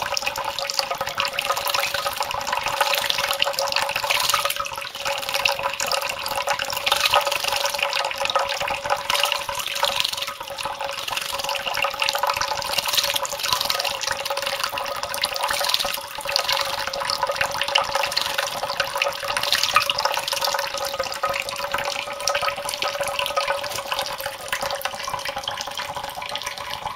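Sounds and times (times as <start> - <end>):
tap water trickling into bowl: 0.0 - 26.9.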